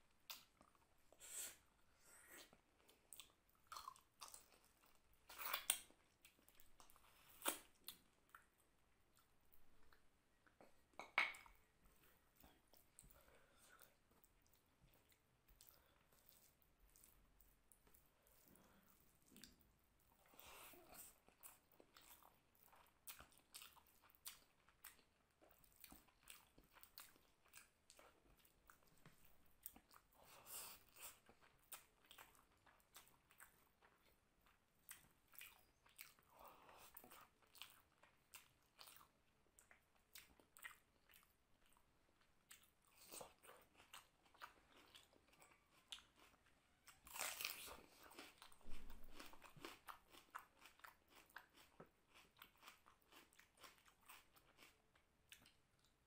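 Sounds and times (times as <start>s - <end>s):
person chewing food: 0.1s - 56.0s.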